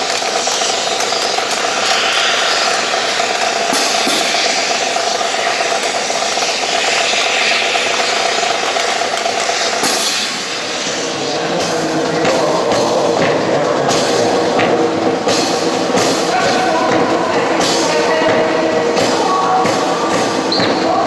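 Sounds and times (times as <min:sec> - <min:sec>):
steady droning hum: 0:00.0 - 0:21.0.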